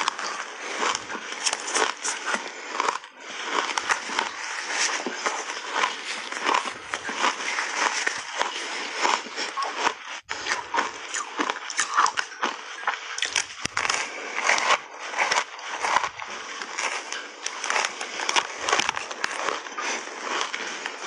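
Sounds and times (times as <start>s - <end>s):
frozen ice being bitten and chewed: 0.0s - 21.0s.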